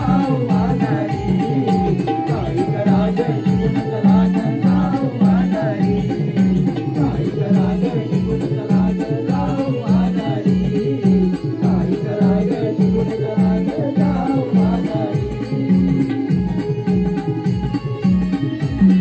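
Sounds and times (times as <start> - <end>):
person singing: 0.0 - 16.4
drumming: 0.0 - 19.0
metal percussion beat: 0.0 - 19.0.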